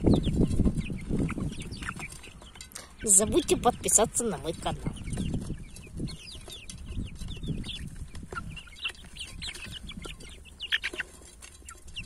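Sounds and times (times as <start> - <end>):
chicks pecking at feed: 0.0 - 12.0
chicks peeping: 0.0 - 12.0.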